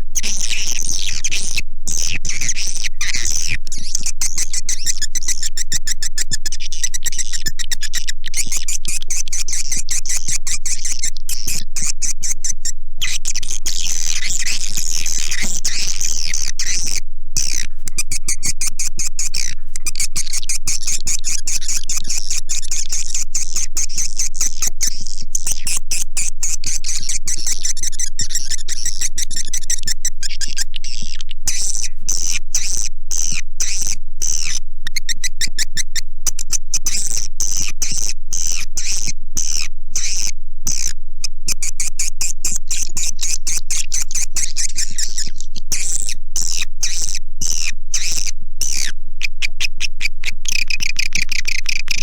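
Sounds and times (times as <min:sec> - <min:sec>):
swiftlets twittering and chirping: 0:00.2 - 0:40.9, 0:41.5 - 0:52.0.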